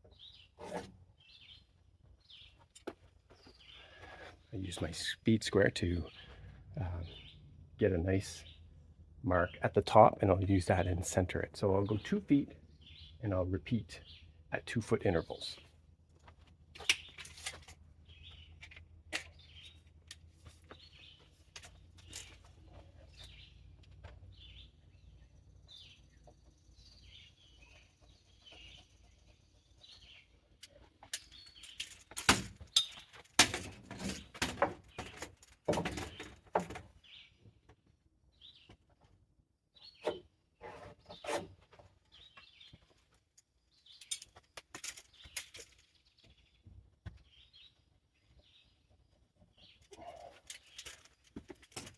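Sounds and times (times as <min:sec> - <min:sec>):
birds chirping: 0:00.0 - 0:15.9, 0:16.7 - 0:38.9, 0:39.7 - 0:51.9.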